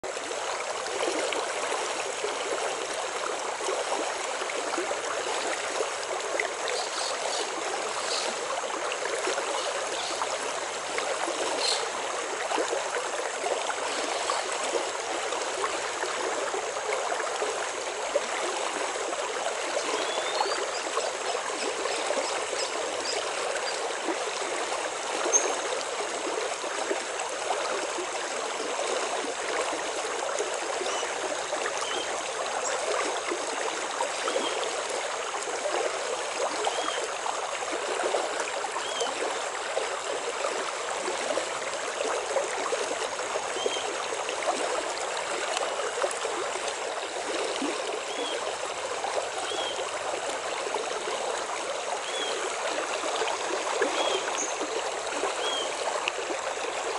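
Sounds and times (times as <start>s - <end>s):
flowing water rushing: 0.0s - 56.9s.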